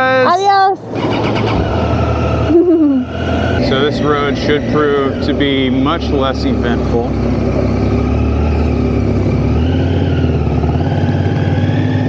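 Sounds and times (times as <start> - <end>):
motorcycle engine drone: 0.0 - 12.0
road noise: 0.0 - 12.0.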